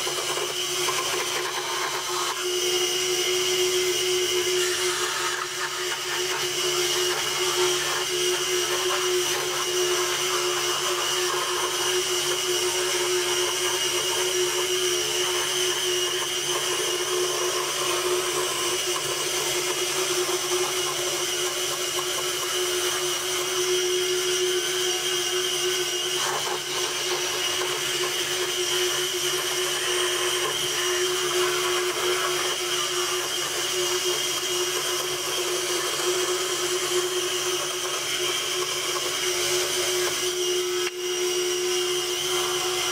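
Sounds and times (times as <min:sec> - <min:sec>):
scroll saw cutting plywood: 0:00.0 - 0:42.9.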